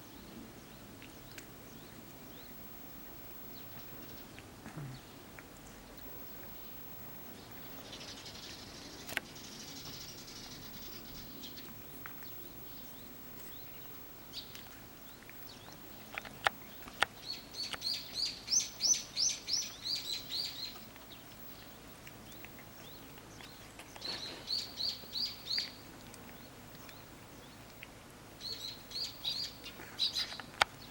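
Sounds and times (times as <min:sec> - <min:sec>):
songbird chirping: 0:00.0 - 0:30.9.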